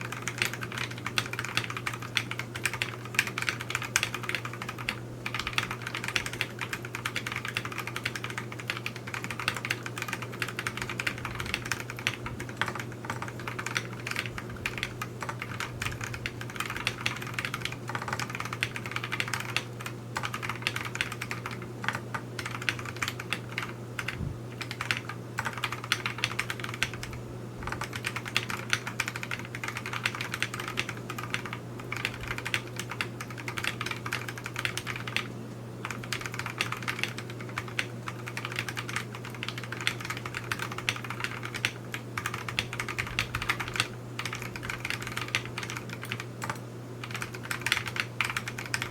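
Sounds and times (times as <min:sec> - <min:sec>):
mechanical keyboard typing: 0:00.0 - 0:48.9.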